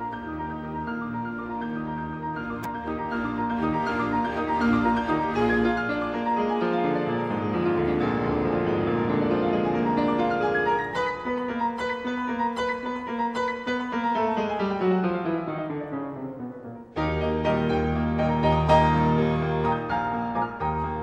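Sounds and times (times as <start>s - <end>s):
instrumental music with keyboard notes: 0.0s - 21.0s.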